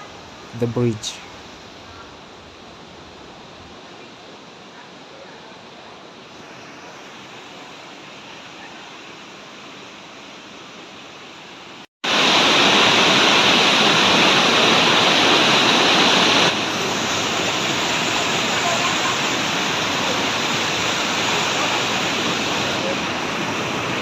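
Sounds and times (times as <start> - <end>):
water rushing over rocks: 2.5 - 24.0.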